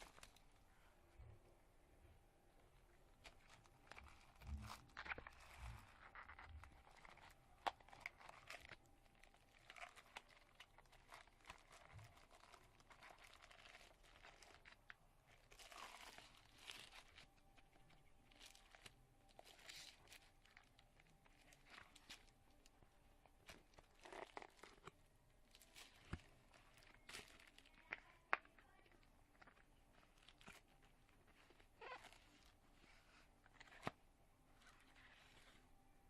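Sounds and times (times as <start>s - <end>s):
packaging and paper crinkling: 0.0s - 0.6s, 3.0s - 35.7s.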